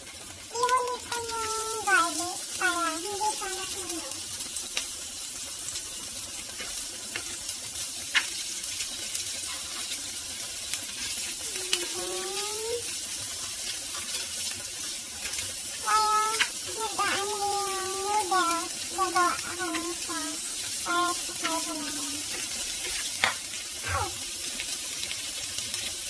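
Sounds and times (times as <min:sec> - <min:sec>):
ham and onion sizzling in a pan: 0:00.0 - 0:26.0.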